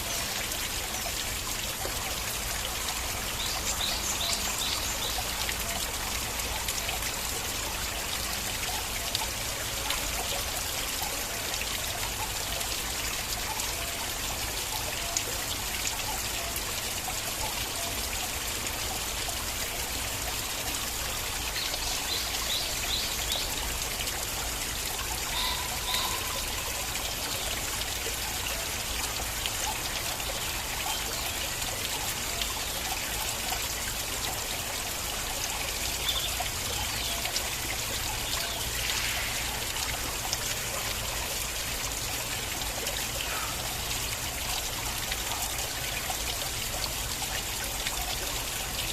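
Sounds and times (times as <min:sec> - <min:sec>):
stream water flowing: 0:00.0 - 0:48.9
water drips and splashes: 0:00.0 - 0:48.9.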